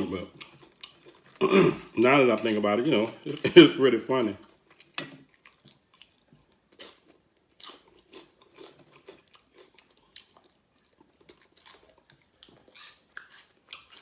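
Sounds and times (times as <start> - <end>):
chewing crunchy chips: 0.0 - 1.9, 4.4 - 14.0.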